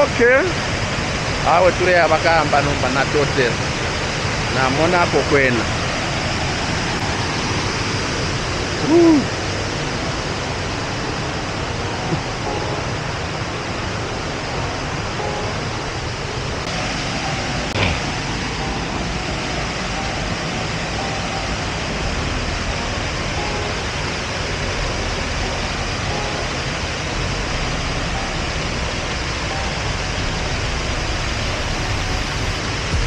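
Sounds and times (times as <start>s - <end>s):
waterfall rushing over rocks: 0.0s - 33.0s.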